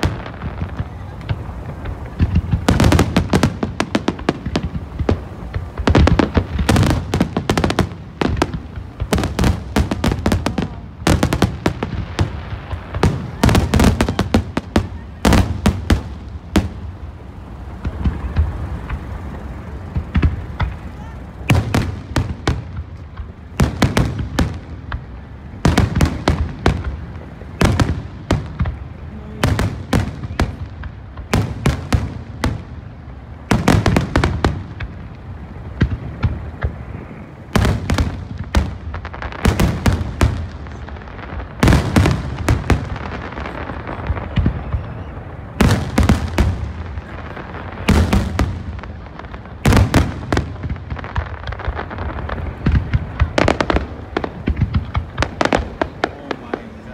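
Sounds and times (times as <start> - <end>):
fireworks bursting: 0.0 - 56.9.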